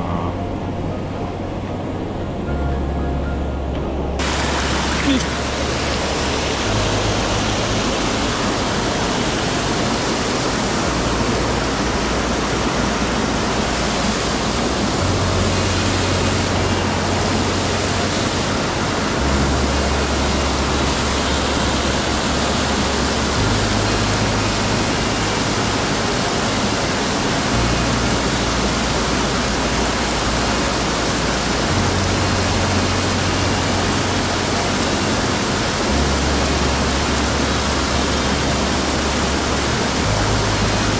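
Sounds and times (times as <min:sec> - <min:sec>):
stream rushing over rocks: 0:03.9 - 0:40.9.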